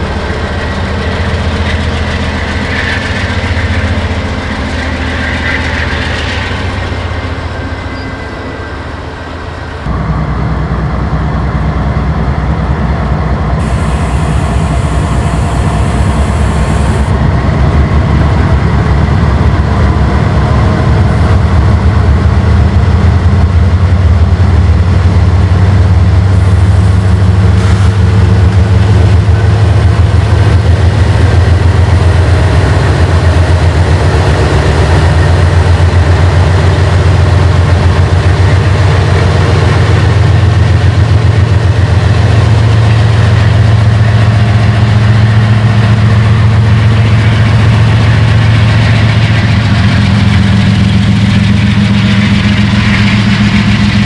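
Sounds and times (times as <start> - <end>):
deep locomotive engine rumble: 0.0 - 54.0
quieter locomotive working: 0.0 - 54.0.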